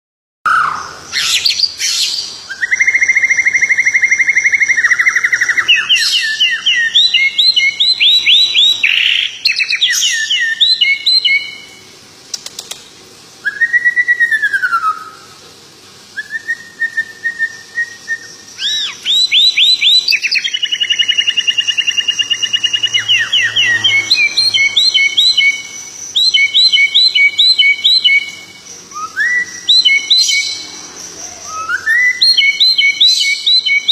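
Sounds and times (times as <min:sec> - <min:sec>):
songbird singing: 0:00.5 - 0:15.3, 0:16.1 - 0:33.9.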